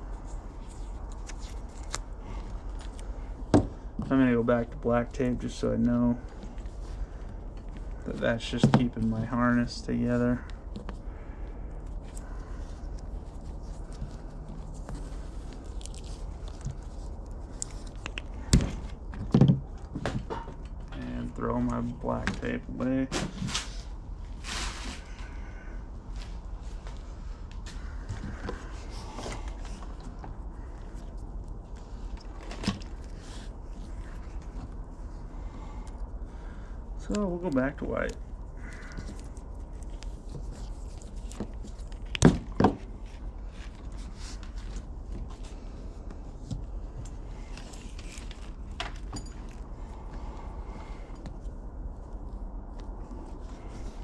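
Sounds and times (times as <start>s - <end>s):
tape and wires crinkling: 0.0s - 22.7s, 26.0s - 36.2s, 37.0s - 54.0s
low steady hum: 0.0s - 54.0s.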